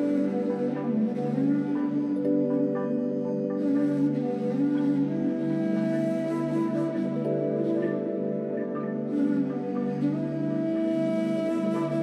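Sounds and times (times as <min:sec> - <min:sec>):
ambient background music: 0:00.0 - 0:12.0.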